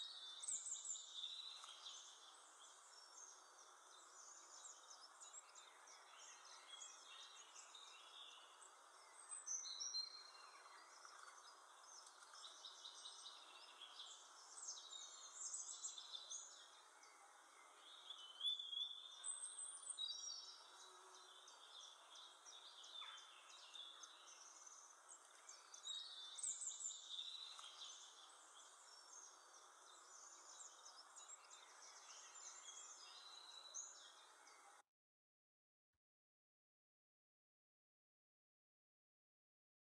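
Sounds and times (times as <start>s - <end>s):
small birds chirping: 0.0s - 34.8s
steady background hiss: 0.1s - 34.3s.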